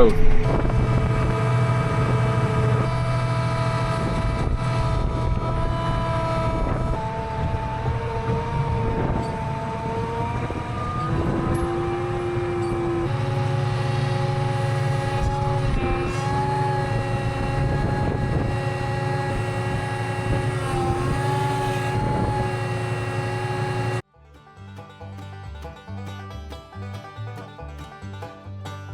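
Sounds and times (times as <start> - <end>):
tractor engine droning: 0.0 - 28.9.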